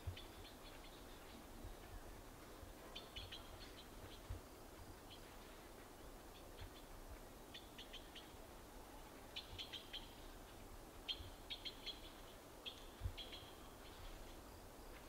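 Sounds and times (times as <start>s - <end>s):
soft background hiss: 0.0s - 15.0s
faint bird chirps: 2.8s - 15.0s.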